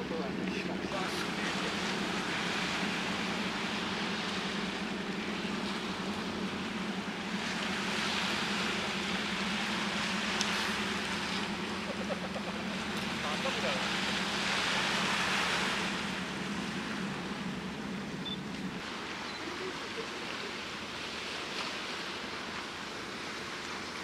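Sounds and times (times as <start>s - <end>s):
ship engines droning: 0.0s - 24.0s
wind and waves hiss: 0.0s - 24.0s.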